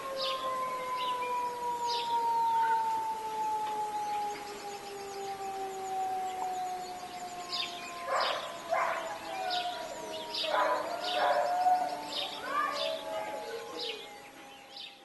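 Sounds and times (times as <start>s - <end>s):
birds chirping and warbling: 0.0s - 15.0s
siren winding down: 0.0s - 15.0s.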